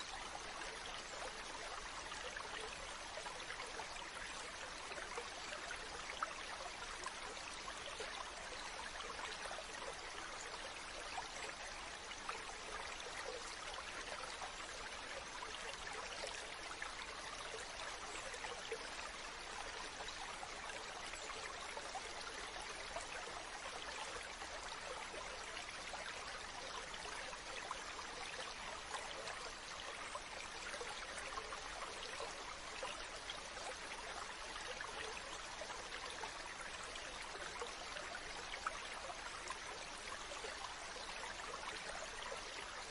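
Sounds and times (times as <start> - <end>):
stream running over rocks: 0.0 - 42.9.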